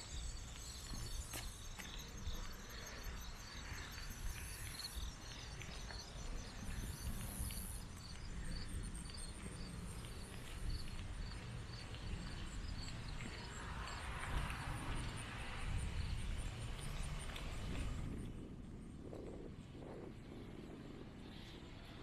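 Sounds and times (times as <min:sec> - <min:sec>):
insects chirping rhythmically: 0:00.0 - 0:18.2
low outdoor rumble: 0:00.0 - 0:22.0.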